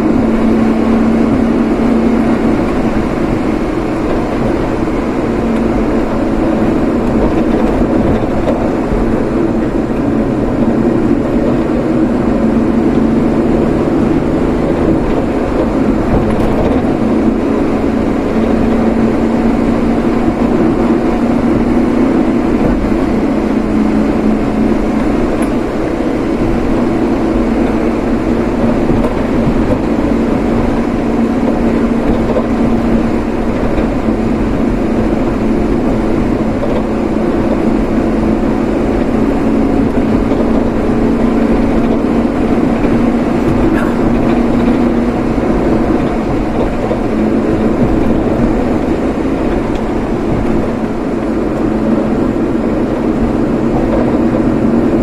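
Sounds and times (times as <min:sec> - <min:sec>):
low engine hum: 0:00.0 - 0:55.0
road noise: 0:00.0 - 0:55.0.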